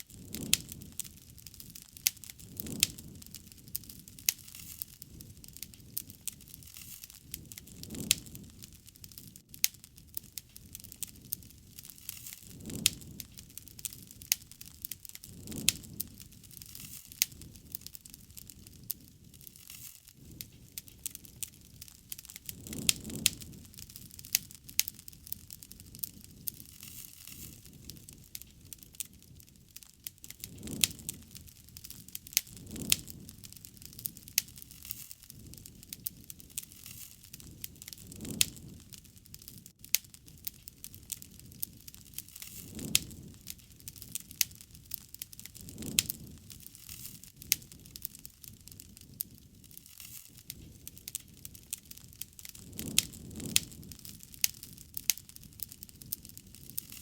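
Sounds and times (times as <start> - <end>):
low rush of flame: 0.0 - 57.0
wood fire crackling: 0.0 - 57.0.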